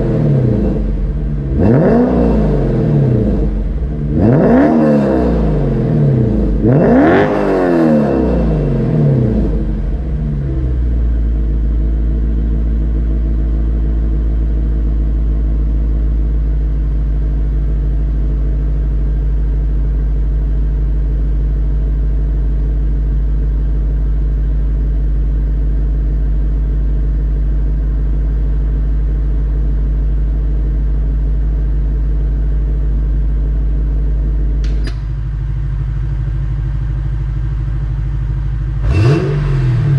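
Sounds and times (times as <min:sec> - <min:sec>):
car engine revving then idling: 0:00.0 - 0:39.9.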